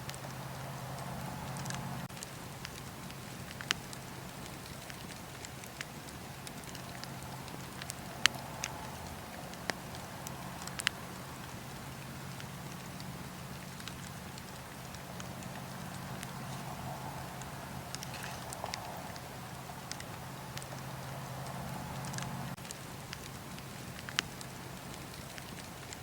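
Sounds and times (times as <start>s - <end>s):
fire crackling and popping: 0.0s - 26.0s
fire hissing: 0.0s - 26.0s.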